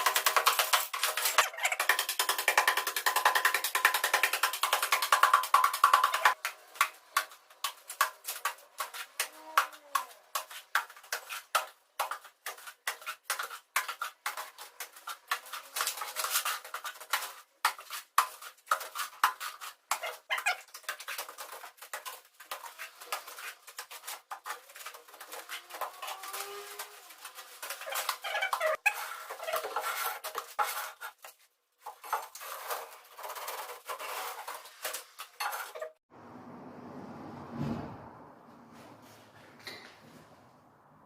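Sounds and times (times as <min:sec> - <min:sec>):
trowel scraping cement mortar: 0:00.0 - 0:35.9.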